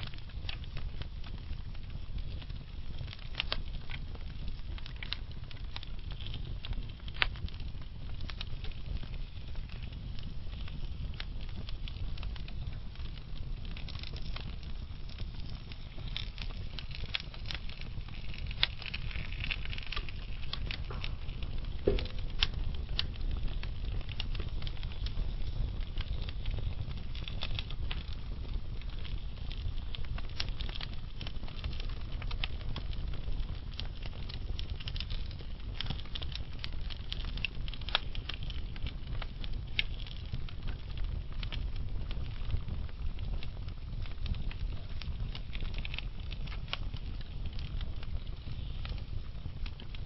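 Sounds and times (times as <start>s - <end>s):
burning logs crackling and popping: 0.0s - 50.0s
flames rumbling: 0.0s - 50.0s.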